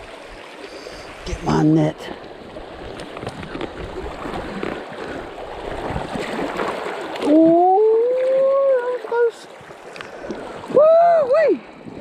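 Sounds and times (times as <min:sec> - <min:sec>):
rushing stream water: 0:00.0 - 0:12.0
water splashing and handling noise: 0:00.0 - 0:12.0.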